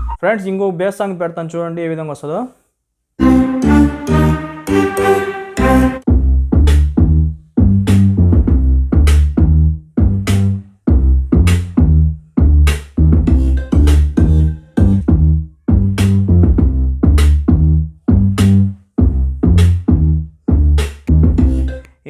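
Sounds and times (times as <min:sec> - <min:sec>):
bass-heavy electronic song: 0:03.2 - 0:21.9.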